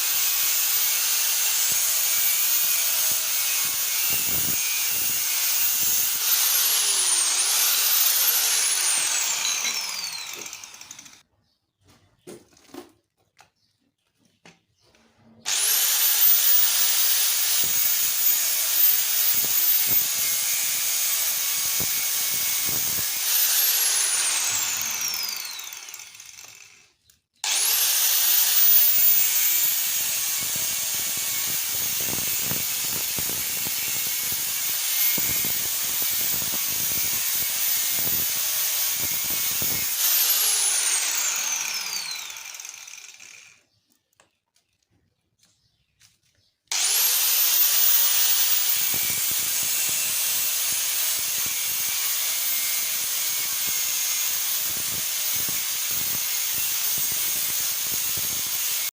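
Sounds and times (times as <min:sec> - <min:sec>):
angle grinder whining: 0:00.0 - 0:11.2, 0:15.5 - 0:43.6, 0:46.7 - 0:58.9.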